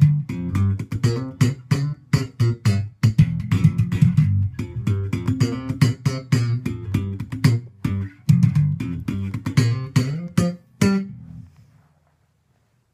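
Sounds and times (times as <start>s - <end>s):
guitar plucked notes: 0.0s - 11.4s.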